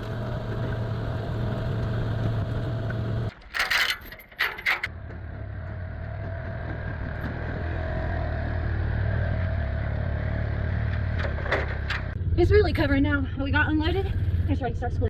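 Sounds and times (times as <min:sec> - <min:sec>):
vehicle engine idling: 0:00.0 - 0:03.3, 0:04.8 - 0:15.0.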